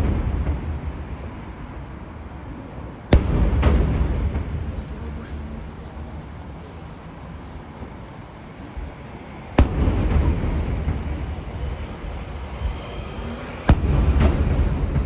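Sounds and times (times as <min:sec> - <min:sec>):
firework bangs: 0:00.0 - 0:15.0
low rumble rolling away: 0:00.0 - 0:15.0.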